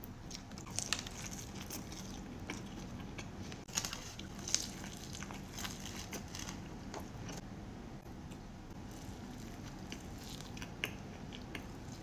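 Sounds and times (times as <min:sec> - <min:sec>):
wet chewing: 0:00.0 - 0:07.4, 0:08.8 - 0:12.0.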